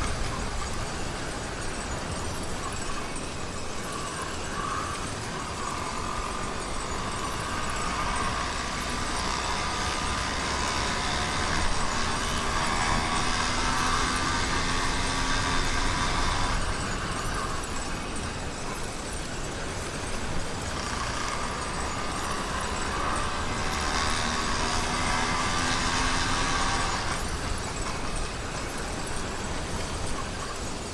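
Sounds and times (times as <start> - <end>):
two-stroke engine running: 0.0 - 2.6, 3.4 - 30.9.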